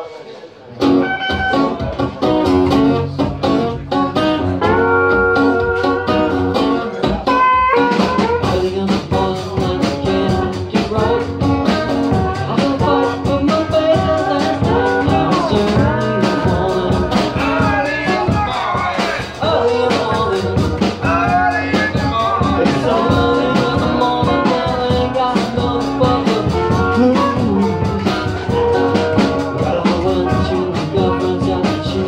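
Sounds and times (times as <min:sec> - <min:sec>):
acoustic bass guitar: 0:00.7 - 0:32.0
acoustic guitars: 0:00.7 - 0:32.0.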